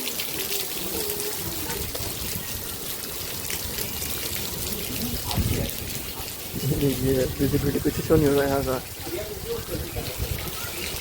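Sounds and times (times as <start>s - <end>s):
steady rain falling: 0.0s - 11.0s
wind buffeting microphone: 0.6s - 11.0s.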